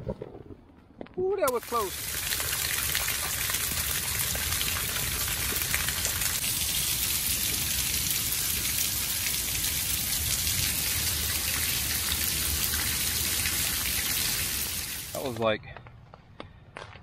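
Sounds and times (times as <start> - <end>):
rain pattering on tent: 1.4 - 15.4.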